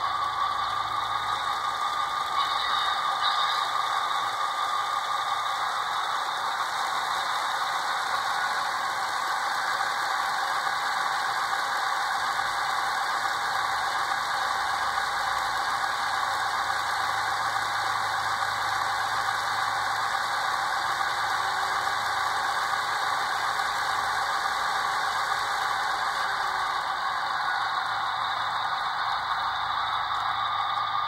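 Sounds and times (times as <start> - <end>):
diesel engine sound through small speaker: 0.0 - 31.0.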